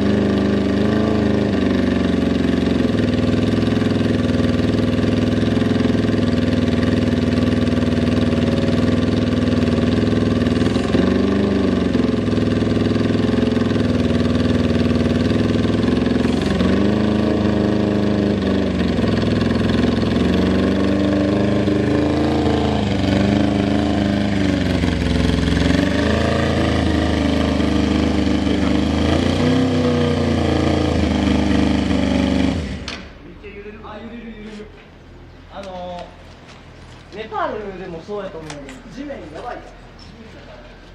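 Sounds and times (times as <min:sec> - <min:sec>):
motorcycle engine idling: 0:00.0 - 0:33.2.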